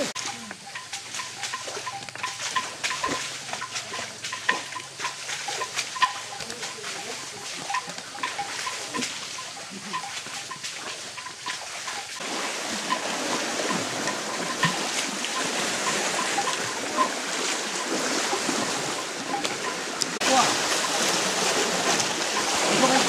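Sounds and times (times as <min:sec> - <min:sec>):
water splashing and sloshing: 0:00.0 - 0:23.0.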